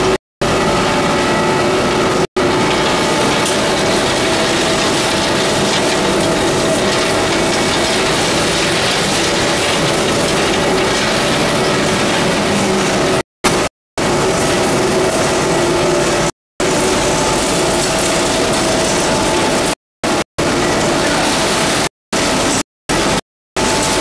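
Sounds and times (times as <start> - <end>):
pellet mill machinery running: 0.0 - 24.0.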